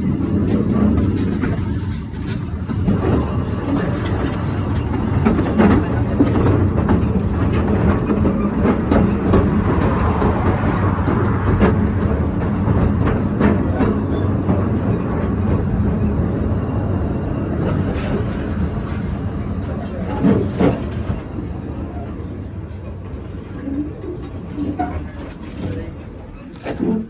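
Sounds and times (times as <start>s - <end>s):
rumble of train wheels: 0.0s - 27.0s
wheels clicking on rails: 0.0s - 27.0s.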